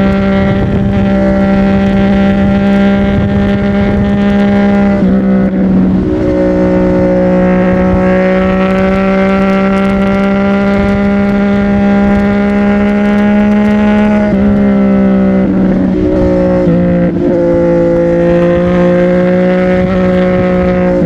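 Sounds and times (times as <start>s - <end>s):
motorcycle engine running loud: 0.0s - 21.0s.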